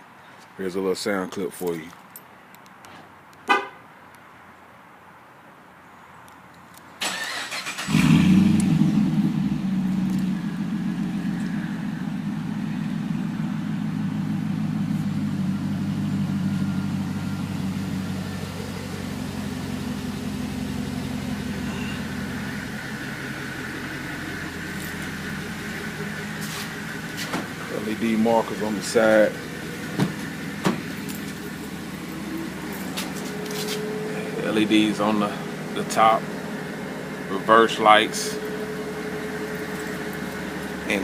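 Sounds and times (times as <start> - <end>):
car engine starting and idling: 7.0 - 41.0.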